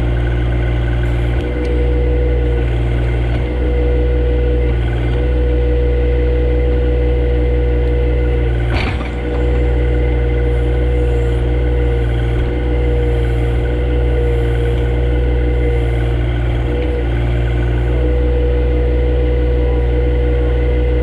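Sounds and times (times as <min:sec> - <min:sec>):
steady whine: 0:00.0 - 0:21.0
tractor engine under load: 0:00.0 - 0:21.0.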